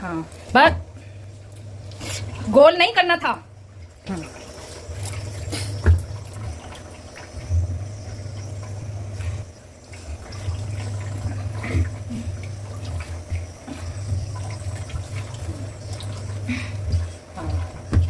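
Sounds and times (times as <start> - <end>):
dough squelching while kneaded: 0.0 - 18.0.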